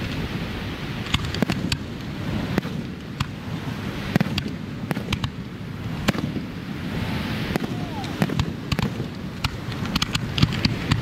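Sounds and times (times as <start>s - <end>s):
firework shells bursting: 1.0s - 11.0s.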